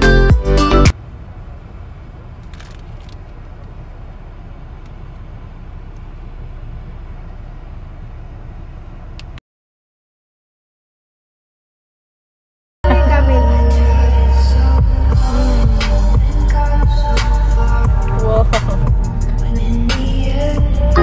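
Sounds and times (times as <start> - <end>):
car cabin rumble: 0.0 - 9.4, 12.8 - 21.0.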